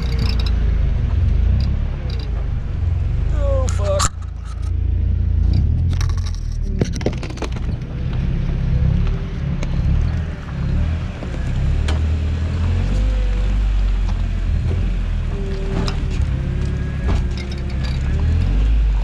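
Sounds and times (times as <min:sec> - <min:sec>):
suspension knocks and clatter: 0:00.0 - 0:19.0
truck engine rumble: 0:00.0 - 0:19.0.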